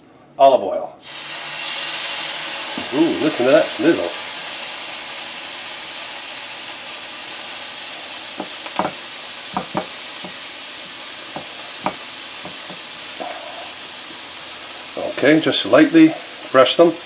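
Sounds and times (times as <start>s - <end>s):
meat sizzling in frying pan: 1.0s - 17.0s.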